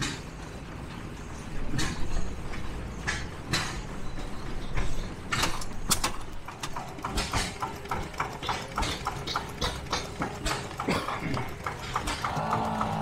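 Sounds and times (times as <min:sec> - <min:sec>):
flywheel gas engines clacking: 0:00.0 - 0:13.0.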